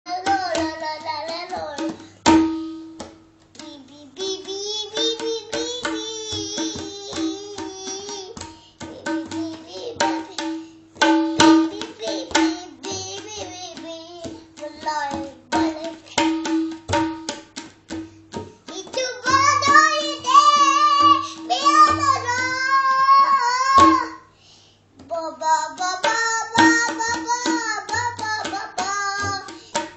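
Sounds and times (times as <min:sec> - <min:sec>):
child singing: 0:00.1 - 0:02.0, 0:03.6 - 0:10.6, 0:11.4 - 0:16.7, 0:18.6 - 0:24.3, 0:25.0 - 0:29.9
tabla drumming: 0:00.1 - 0:24.2, 0:25.5 - 0:29.9.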